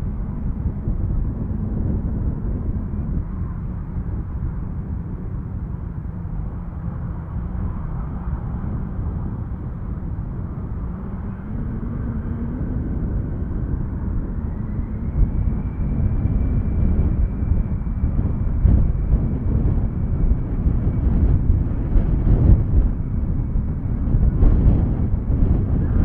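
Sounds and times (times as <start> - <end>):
airliner engines rumbling: 0.0 - 26.0
engine whine rising in pitch: 0.0 - 26.0.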